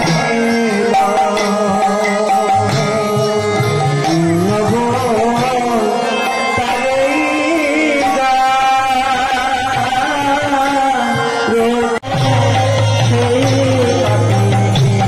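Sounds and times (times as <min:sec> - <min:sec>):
devotional music with gliding melody: 0:00.0 - 0:15.0.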